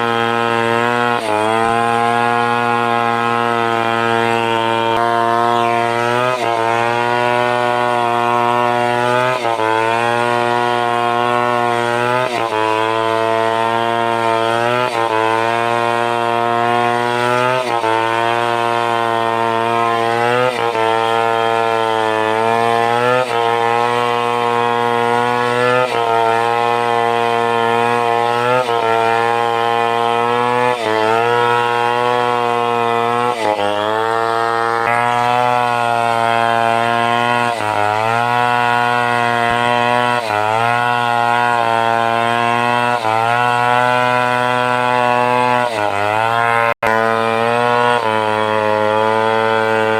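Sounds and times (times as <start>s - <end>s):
chainsaw cutting timber: 0.0s - 49.9s.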